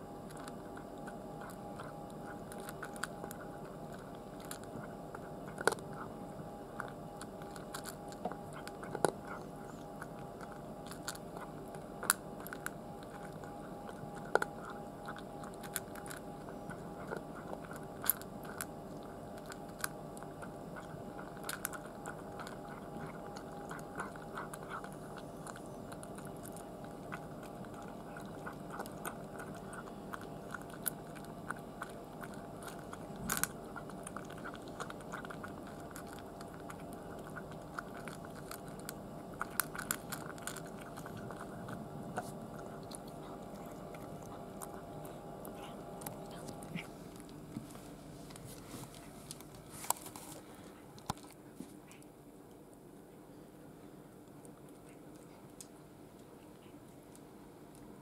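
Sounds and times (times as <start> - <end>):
cat chewing food: 0.0 - 58.0
faint hum: 0.0 - 58.0.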